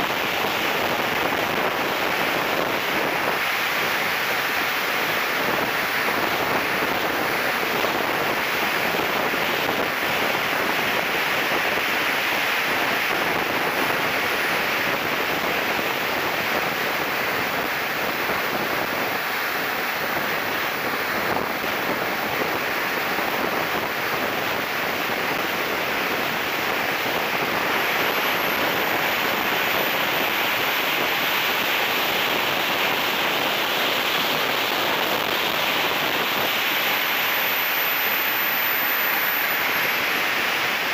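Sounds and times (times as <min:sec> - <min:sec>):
high whine of model jet turbine: 0:00.0 - 0:40.9
air rushing over camera: 0:00.1 - 0:40.9.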